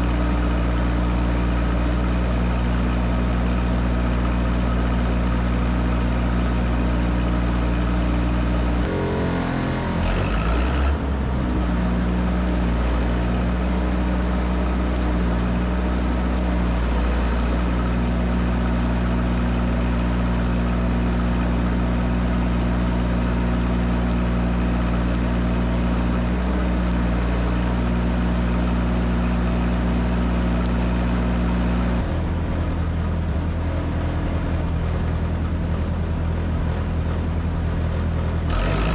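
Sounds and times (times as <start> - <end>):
welder engine running: 0.0 - 38.9.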